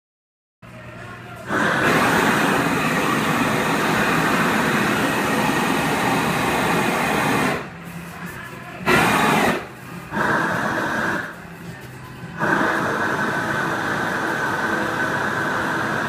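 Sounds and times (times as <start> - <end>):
gas torch hissing: 1.3 - 16.0.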